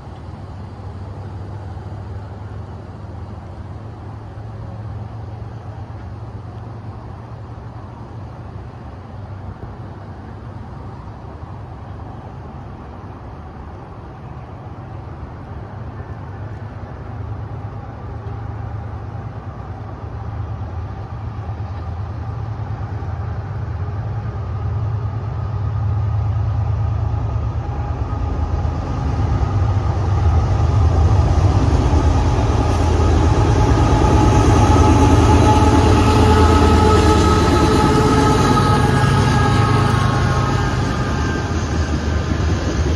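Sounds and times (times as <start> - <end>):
diesel locomotive drone: 0.0 - 42.9
locomotive whine: 0.0 - 42.9.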